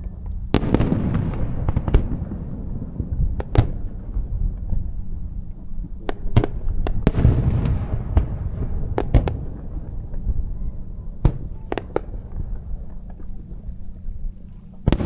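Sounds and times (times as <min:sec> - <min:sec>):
low rumble: 0:00.0 - 0:15.0
fireworks bursting with bangs: 0:00.4 - 0:15.0.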